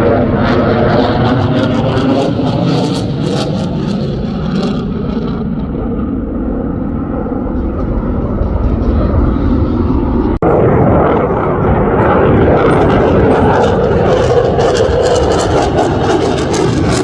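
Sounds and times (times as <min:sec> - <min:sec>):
jet roar passing overhead: 0:00.0 - 0:17.0.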